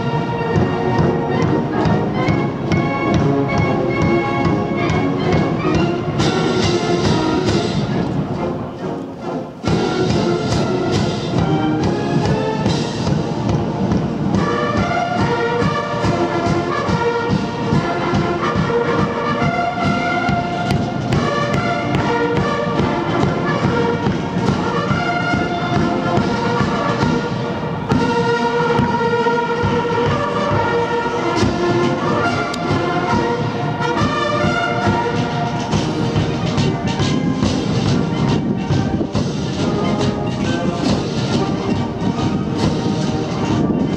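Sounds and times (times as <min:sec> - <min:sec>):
bugles and brass holding notes: 0:00.0 - 0:43.9
military band playing a march: 0:00.0 - 0:43.9
steady drumbeat: 0:00.0 - 0:43.9.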